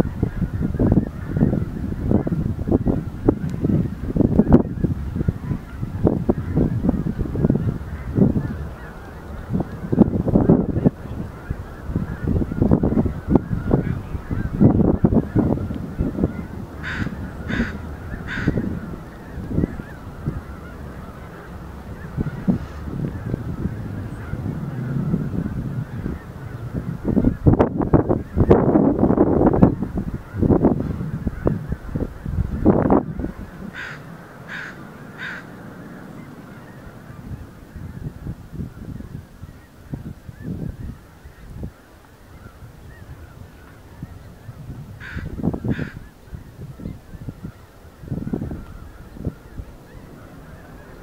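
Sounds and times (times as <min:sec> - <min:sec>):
geese honking: 0:00.0 - 0:51.0
low background noise: 0:00.0 - 0:51.0
steady low rumble: 0:00.0 - 0:51.0.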